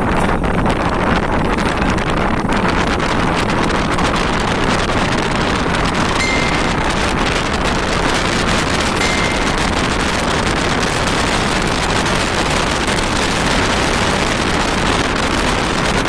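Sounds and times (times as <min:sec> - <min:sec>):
vehicle road noise: 0:00.0 - 0:16.0
wind on microphone: 0:00.0 - 0:16.0.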